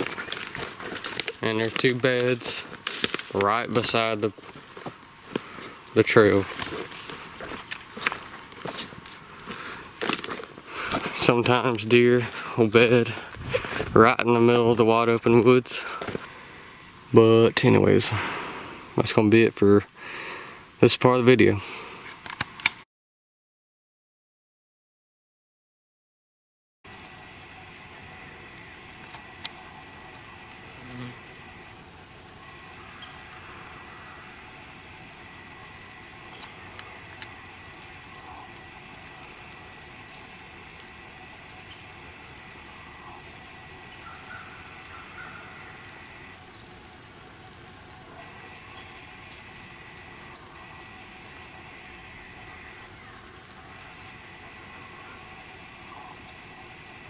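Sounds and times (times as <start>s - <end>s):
lower insect trill: 0.0s - 22.7s, 26.9s - 57.0s
high-pitched insect chorus: 0.0s - 22.8s, 26.9s - 57.0s.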